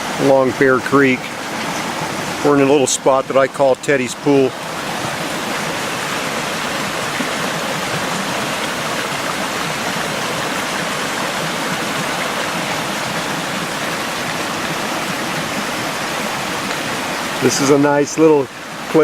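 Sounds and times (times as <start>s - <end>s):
creek water rushing over rocks: 0.0s - 19.0s.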